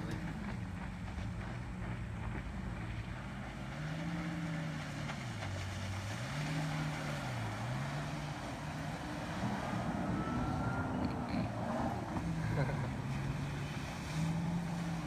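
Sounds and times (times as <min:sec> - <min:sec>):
jet ski engine: 0:00.0 - 0:15.0.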